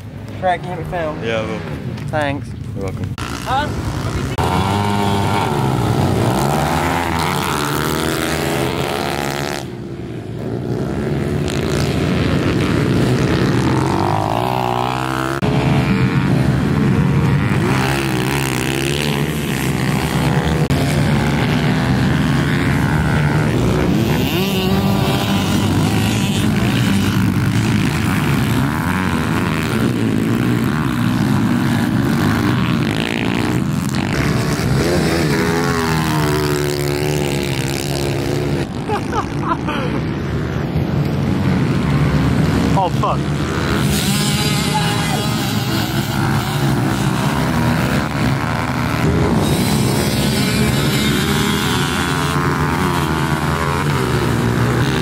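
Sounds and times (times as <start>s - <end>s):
motorbike engines revving: 0.0s - 55.0s.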